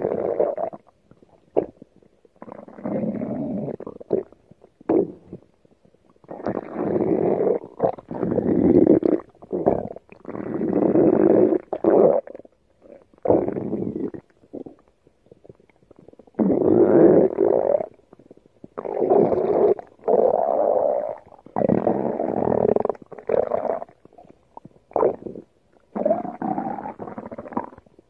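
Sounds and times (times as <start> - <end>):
stomach growling: 0.0 - 28.0.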